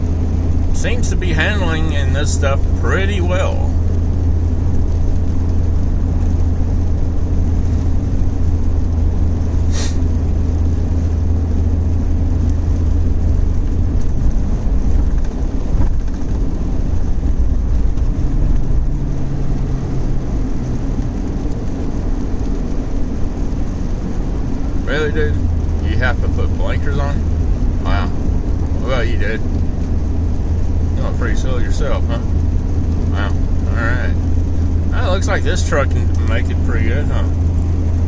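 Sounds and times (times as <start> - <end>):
truck engine and road drone: 0.0 - 38.0.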